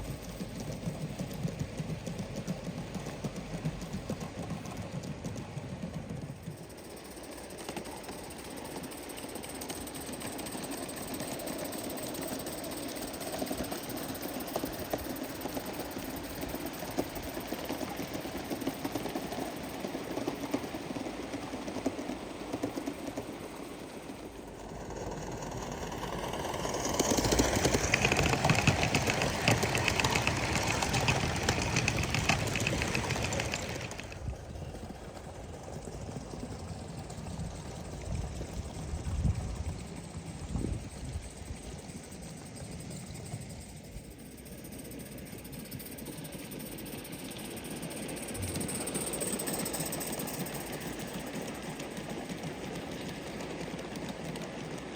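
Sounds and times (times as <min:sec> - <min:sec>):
steam locomotive exhaust beats: 0:00.0 - 0:54.9.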